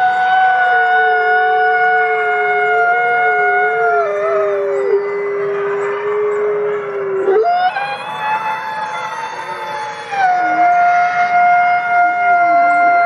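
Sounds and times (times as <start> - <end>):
wolves howling: 0.0 - 13.0.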